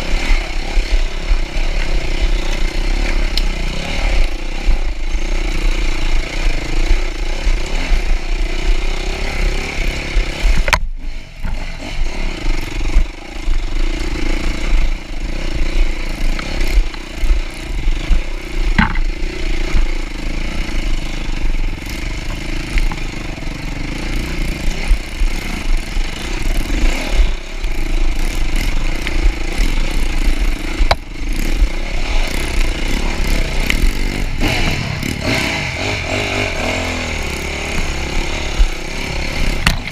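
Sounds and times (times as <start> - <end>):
dirt bike engine running: 0.0 - 39.9
sharp knocks and rattles: 0.2 - 35.1.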